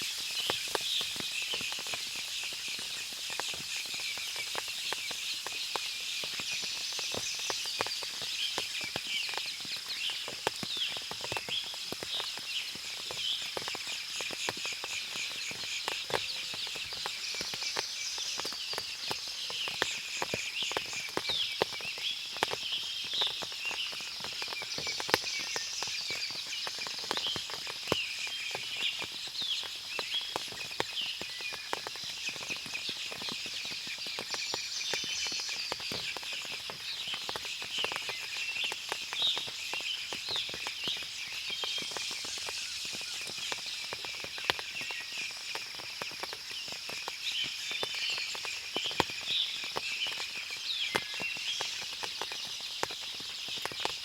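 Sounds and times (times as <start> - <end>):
water dripping from leaves: 0.0 - 54.0.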